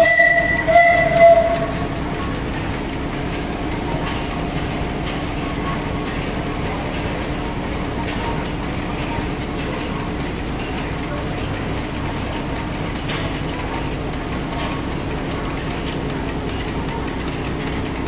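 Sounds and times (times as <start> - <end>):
steam engine running: 0.0 - 18.0.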